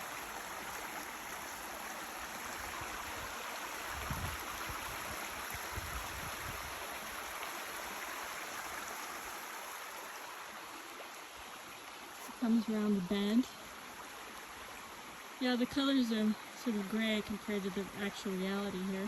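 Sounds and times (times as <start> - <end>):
creek water rushing over rocks: 0.0 - 19.0.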